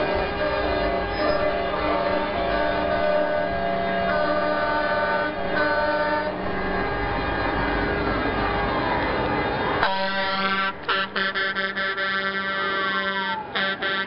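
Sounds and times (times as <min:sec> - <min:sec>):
truck air horns blowing: 0:00.0 - 0:07.4, 0:09.8 - 0:14.0
truck engines rumbling: 0:00.0 - 0:14.0.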